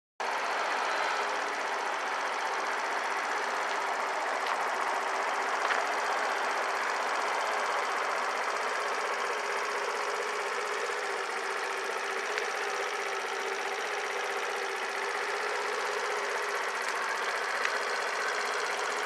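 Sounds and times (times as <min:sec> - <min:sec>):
scooter engine idling: 0:00.2 - 0:19.0.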